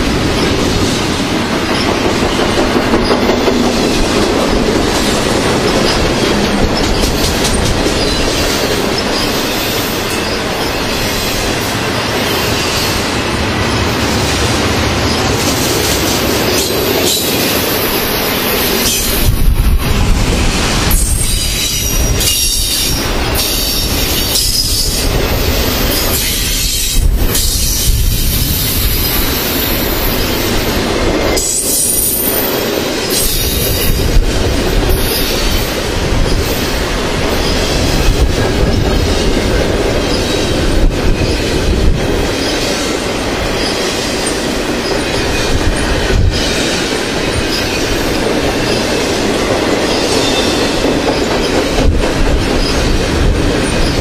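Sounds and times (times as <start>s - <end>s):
wheels clacking over rail joints: 0.0s - 20.2s, 20.8s - 54.0s
steel wheels rumbling on rail: 0.0s - 54.0s.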